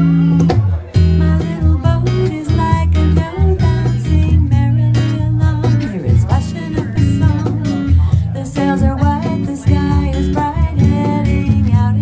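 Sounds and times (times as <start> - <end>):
bass line: 0.0 - 12.0
plucked guitar chords: 0.0 - 12.0.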